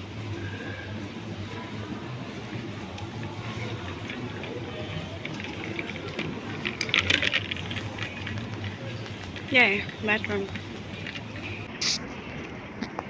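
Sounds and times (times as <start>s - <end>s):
faint murmur: 0.0s - 13.0s.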